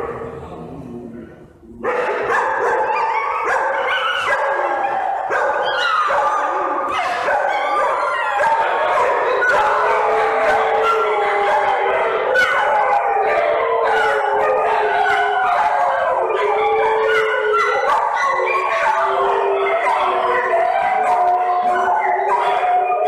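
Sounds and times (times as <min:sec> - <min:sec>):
dogs howling: 0:01.7 - 0:23.0
dogs yipping: 0:01.8 - 0:23.0.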